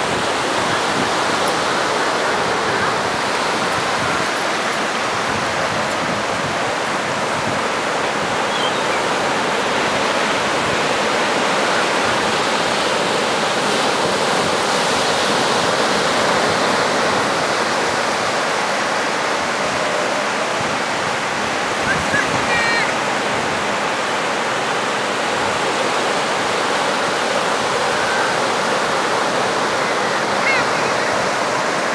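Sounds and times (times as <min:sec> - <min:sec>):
rushing sea noise: 0:00.0 - 0:31.9.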